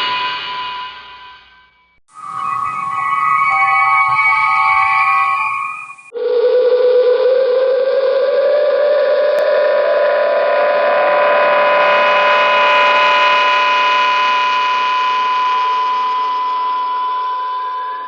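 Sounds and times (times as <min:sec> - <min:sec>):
electronic machine hum: 0:02.2 - 0:18.0.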